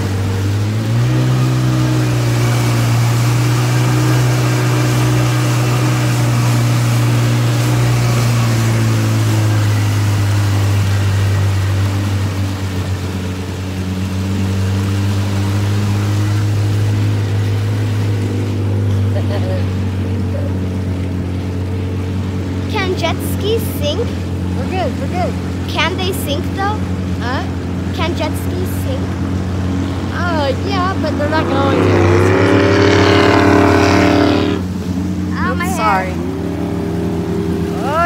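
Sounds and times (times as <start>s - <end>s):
jet ski engine running: 0.0s - 38.0s
rush of water and spray: 0.0s - 38.0s.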